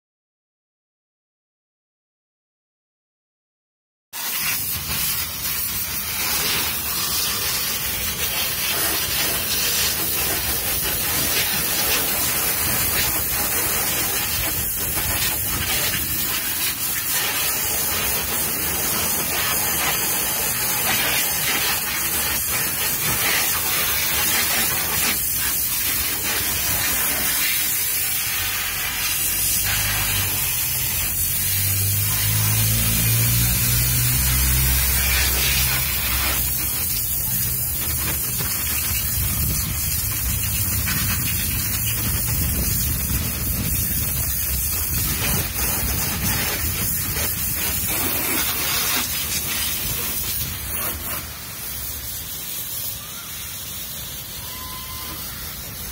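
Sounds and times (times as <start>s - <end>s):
pressure washer spraying water: 4.2s - 55.9s.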